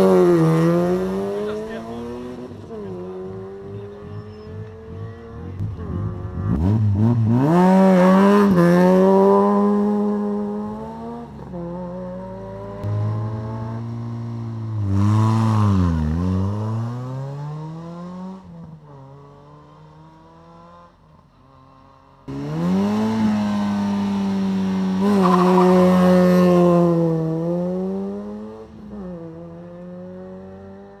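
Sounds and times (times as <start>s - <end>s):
rally car engine revving: 0.0s - 20.8s, 22.3s - 31.0s
car engine at high revs: 0.0s - 21.0s, 21.6s - 31.0s.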